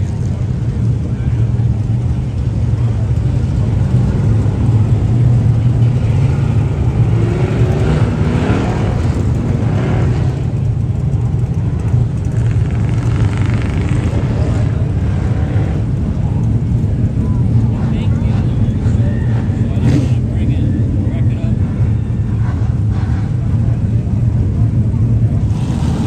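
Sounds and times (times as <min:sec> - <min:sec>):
faint voices: 0:00.0 - 0:26.0
vehicle engine running: 0:00.0 - 0:26.0.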